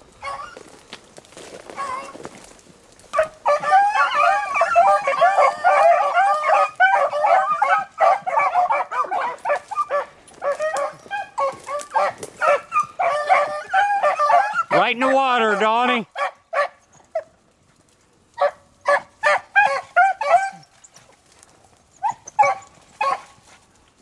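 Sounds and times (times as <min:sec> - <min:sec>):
hounds baying: 0:00.2 - 0:00.8, 0:03.1 - 0:23.7.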